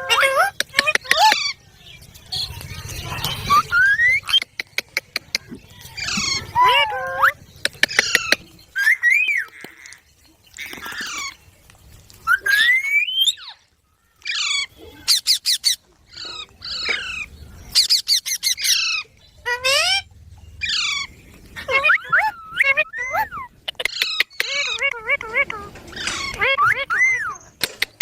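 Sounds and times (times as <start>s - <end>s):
parrot squawking and chirping: 0.0s - 11.4s, 12.2s - 28.0s.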